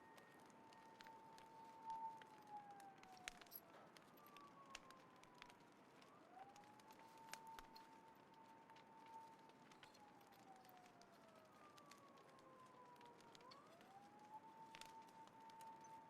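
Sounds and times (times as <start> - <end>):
distant siren wail: 0.0 - 16.0
wood fire crackling and popping: 0.0 - 16.0.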